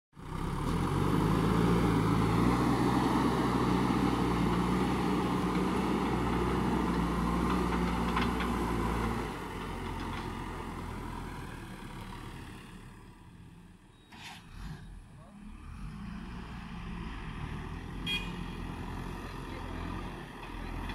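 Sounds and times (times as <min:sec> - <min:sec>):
diesel engine under load: 0:00.2 - 0:20.9.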